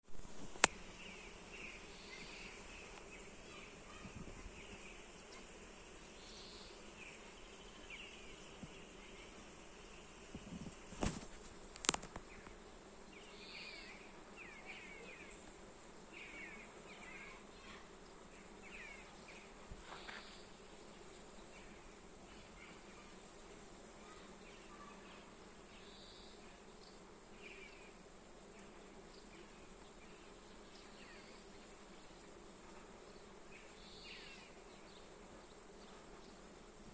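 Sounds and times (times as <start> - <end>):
bees humming: 0.2 - 36.9.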